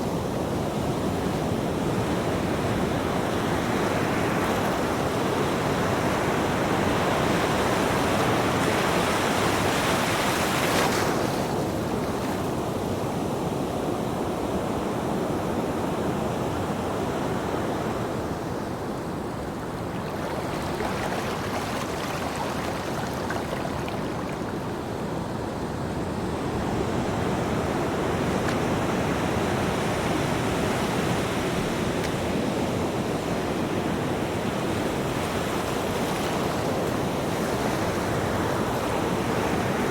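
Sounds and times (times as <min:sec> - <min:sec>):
ocean waves breaking: 0:00.0 - 0:12.9, 0:16.5 - 0:39.9.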